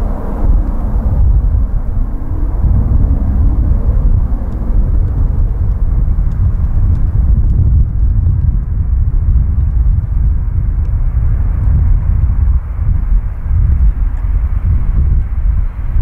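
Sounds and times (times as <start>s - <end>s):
distant jet airliner rumble: 0.0s - 16.0s.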